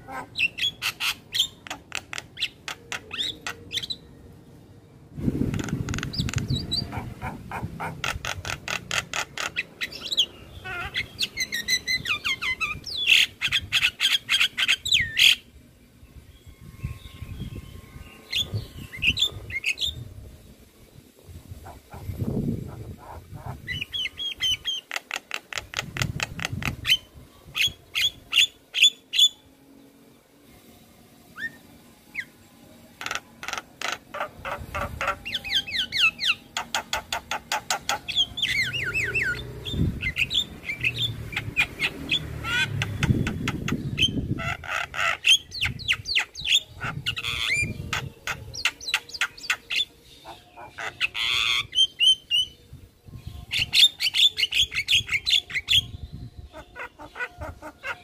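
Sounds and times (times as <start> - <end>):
bird singing varied song: 0.0 - 4.6, 5.2 - 20.2, 21.6 - 29.9, 31.4 - 58.0.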